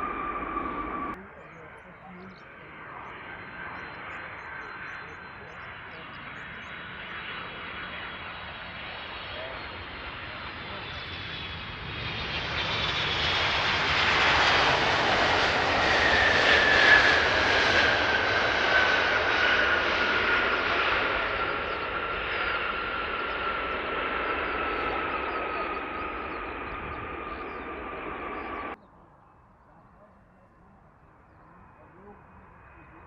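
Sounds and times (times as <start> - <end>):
jet airliner passing: 0.0 - 33.0.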